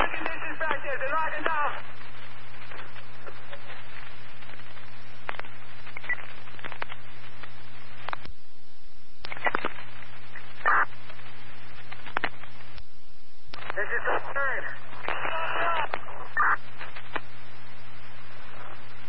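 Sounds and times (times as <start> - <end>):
radio clicks: 0.0 - 8.4, 9.2 - 12.9, 13.5 - 19.0
radio static hiss and hum: 0.0 - 19.0.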